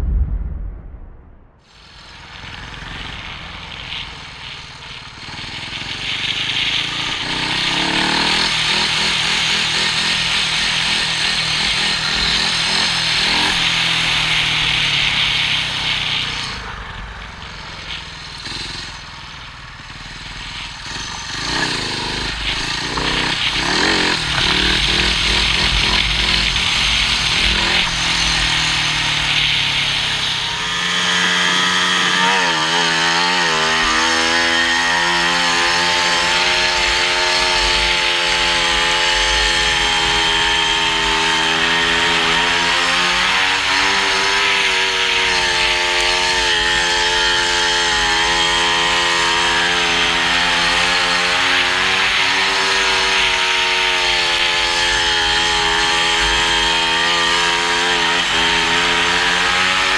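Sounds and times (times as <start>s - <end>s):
motorcycle engine revving: 1.6s - 59.9s.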